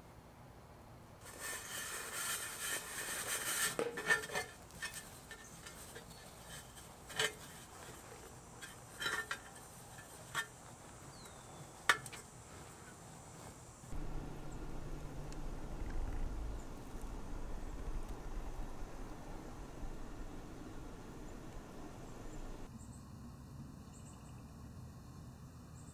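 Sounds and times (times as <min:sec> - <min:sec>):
fibre blanket rustling and scraping: 0:01.2 - 0:22.7.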